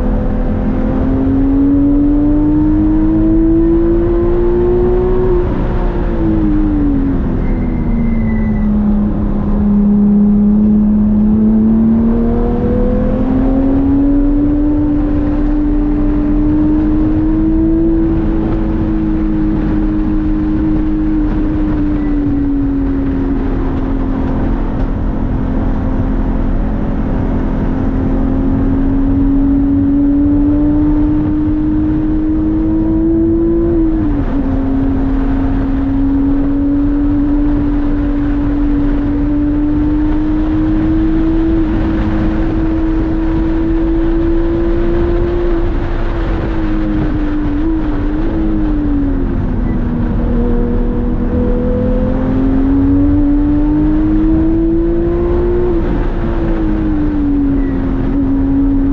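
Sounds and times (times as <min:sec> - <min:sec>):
sports car engine running hard: 0:00.0 - 0:58.9
wind and tyre noise: 0:00.0 - 0:58.9.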